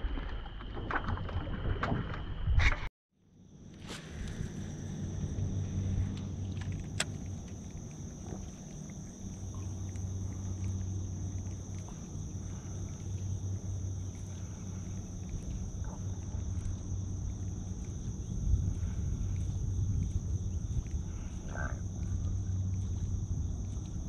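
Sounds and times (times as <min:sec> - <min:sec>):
low steady hum: 0:03.3 - 0:24.0.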